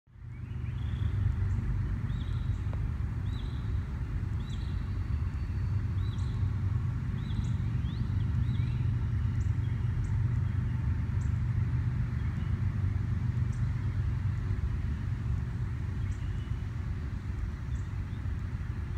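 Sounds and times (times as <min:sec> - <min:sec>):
steady low rumble: 0:00.1 - 0:18.9.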